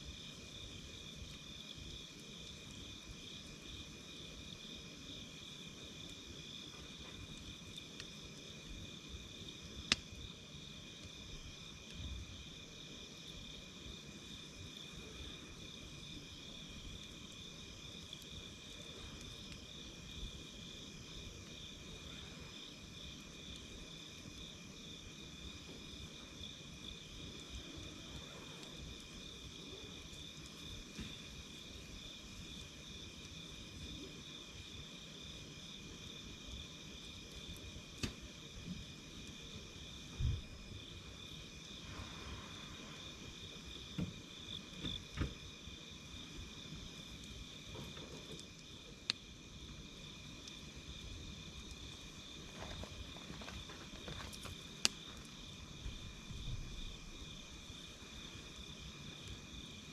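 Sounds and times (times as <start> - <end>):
campfire popping: 0.0 - 59.9
night insects trilling: 0.0 - 59.9.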